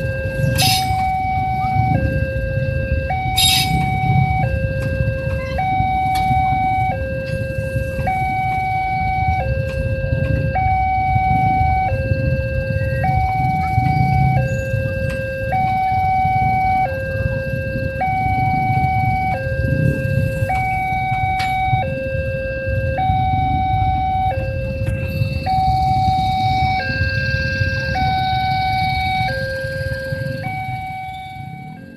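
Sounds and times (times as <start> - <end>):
train carriages rumbling past: 0.0 - 31.9
two-tone crossing alarm: 0.0 - 31.9.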